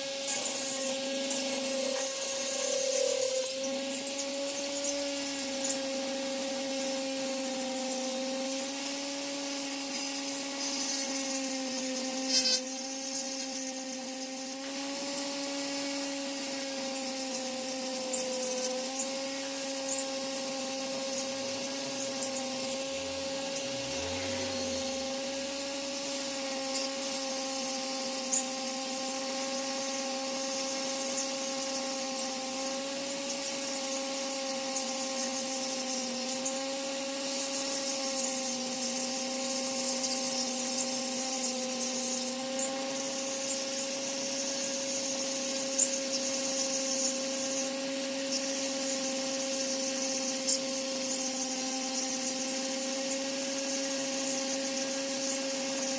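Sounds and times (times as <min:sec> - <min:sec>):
power tool motor humming: 0:00.0 - 0:55.9.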